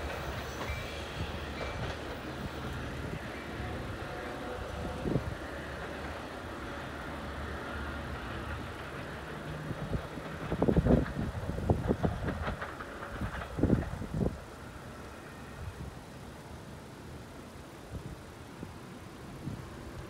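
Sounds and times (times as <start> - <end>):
diesel train rumbling: 0.0 - 20.0.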